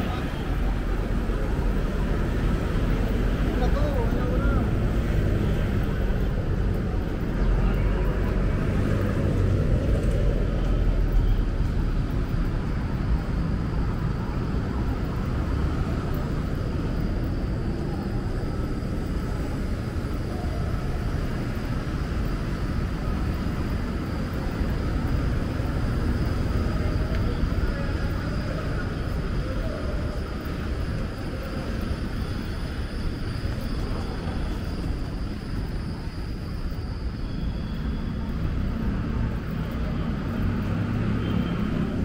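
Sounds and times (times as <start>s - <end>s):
street ambience low rumble: 0.0s - 42.0s.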